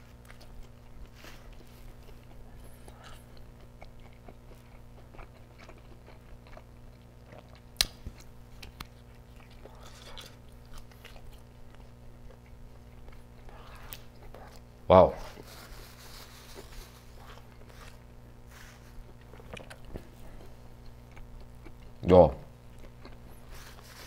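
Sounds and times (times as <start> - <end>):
person chewing: 0.0 - 22.0, 22.6 - 24.0
steady low hum: 0.0 - 24.0.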